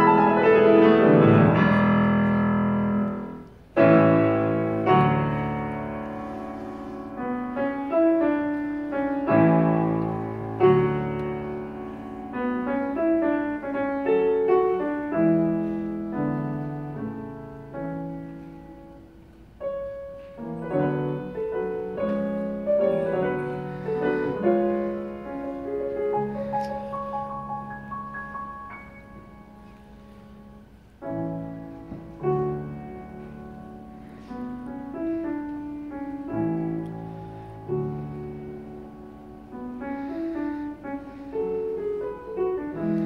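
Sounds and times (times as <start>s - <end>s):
solo piano: 0.0s - 43.0s.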